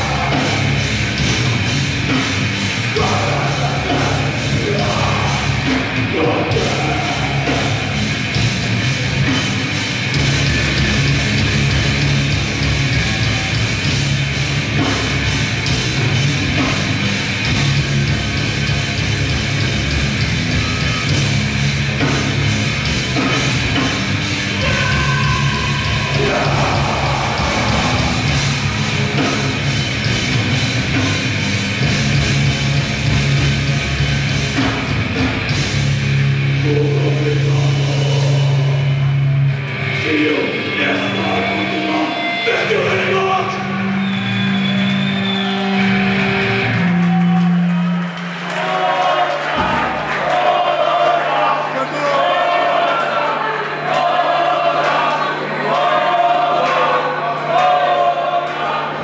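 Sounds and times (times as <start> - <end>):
grindcore band playing live: 0.0 - 51.3.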